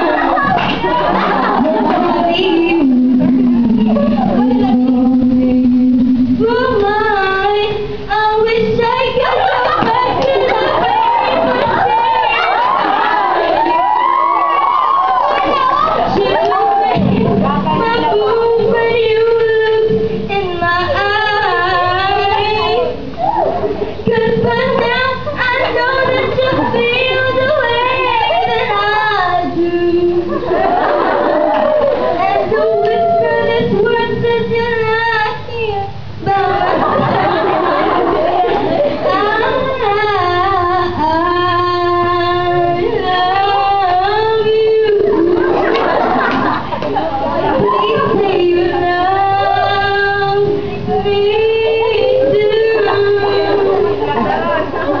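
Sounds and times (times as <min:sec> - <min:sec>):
girl singing into microphone: 0:00.0 - 0:30.4, 0:32.1 - 0:45.5, 0:47.4 - 0:54.1.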